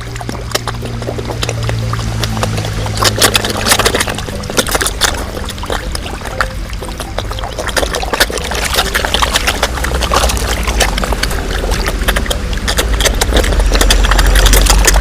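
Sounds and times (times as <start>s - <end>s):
fish splashing at water surface: 0.0s - 15.0s
steady low rumble: 0.0s - 15.0s.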